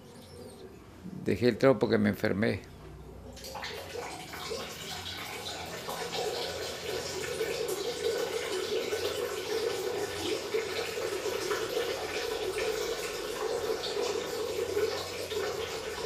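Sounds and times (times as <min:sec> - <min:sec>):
water running: 0:02.8 - 0:16.0.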